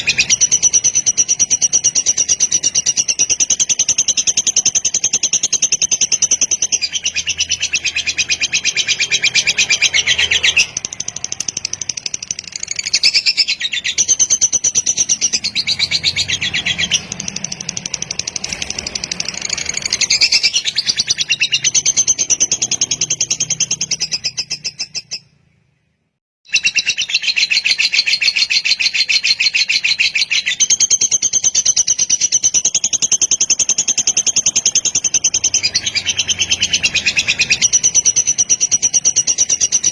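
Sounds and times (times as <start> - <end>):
lovebird chattering: 0.0 - 25.4, 26.5 - 39.9.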